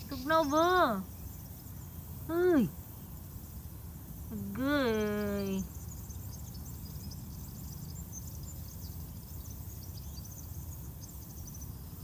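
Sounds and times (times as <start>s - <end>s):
small birds chirping: 0.0s - 3.2s, 4.3s - 12.0s.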